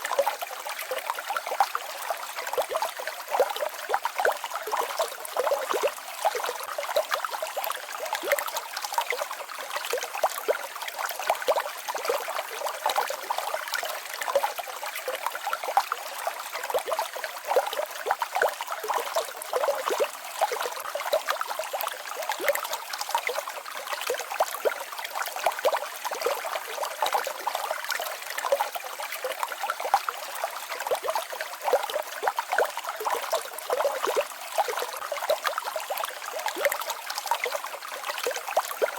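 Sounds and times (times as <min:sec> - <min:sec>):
waterfall and stream splashing: 0:00.0 - 0:38.9.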